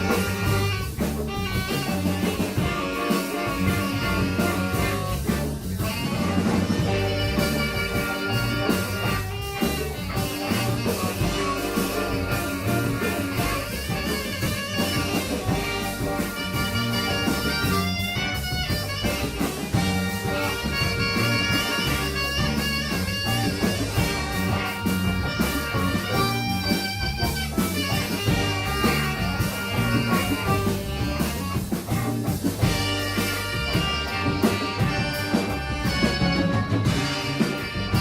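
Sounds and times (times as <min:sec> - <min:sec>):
drum kit beat: 0:00.0 - 0:38.0
rock band playing: 0:00.0 - 0:38.0.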